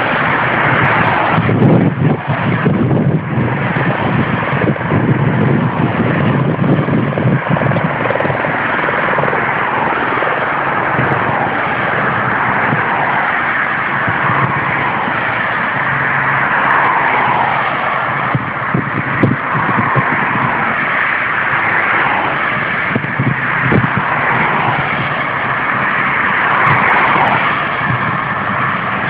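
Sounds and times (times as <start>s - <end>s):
cars passing on road: 0.0s - 29.0s
fast low throbbing: 0.0s - 29.0s.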